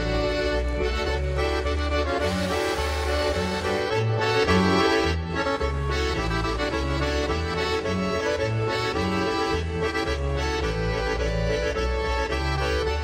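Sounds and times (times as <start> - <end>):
lively instrumental music: 0.0 - 13.0.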